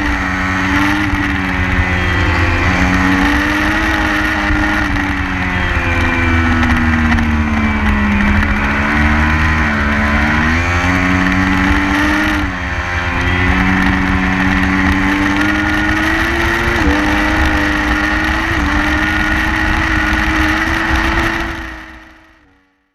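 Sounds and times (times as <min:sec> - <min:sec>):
wind noise rumble: 0:00.0 - 0:22.0
motorcycle engine revving through gears: 0:00.0 - 0:22.6.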